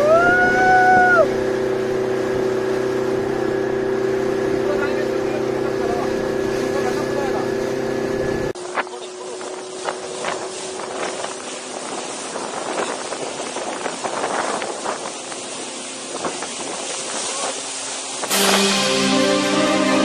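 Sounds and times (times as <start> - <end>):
outboard motor: 0.0 - 20.0
wind and water spray rushing: 0.0 - 20.0
sharp water splashes: 1.2 - 20.0.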